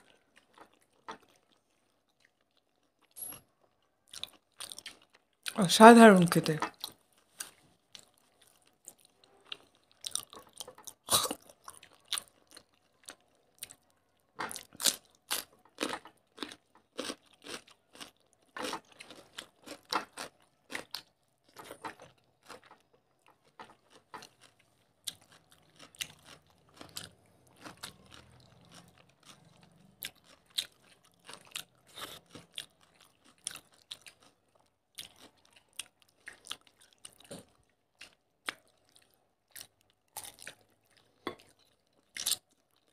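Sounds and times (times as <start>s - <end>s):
people chewing and crunching: 0.0s - 5.6s, 6.6s - 42.9s.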